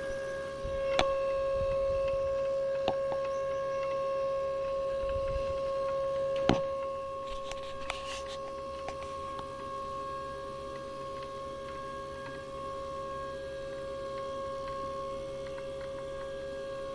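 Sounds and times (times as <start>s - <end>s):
motor whine: 0.0s - 16.9s.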